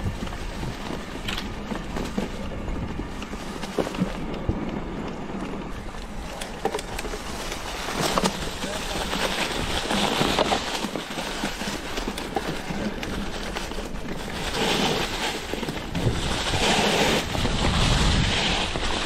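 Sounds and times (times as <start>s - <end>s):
leaves crunching under bike tyres: 0.0s - 19.0s
wind rumble on microphone: 0.0s - 19.0s.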